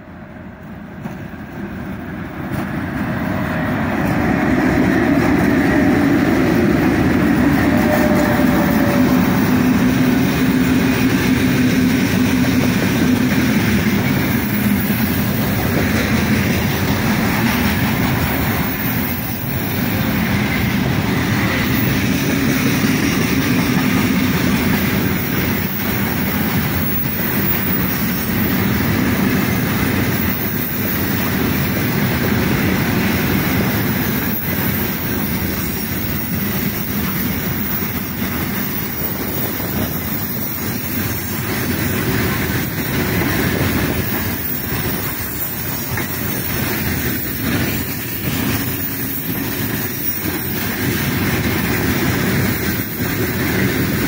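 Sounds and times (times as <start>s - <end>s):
electric locomotives humming: 0.0s - 54.0s
freight train wheels clattering on rails: 0.0s - 54.0s.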